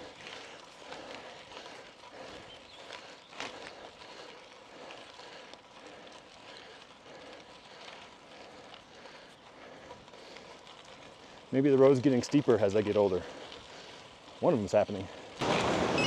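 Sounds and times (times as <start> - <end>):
bicycle tyres crunching on gravel: 0.0 - 16.0.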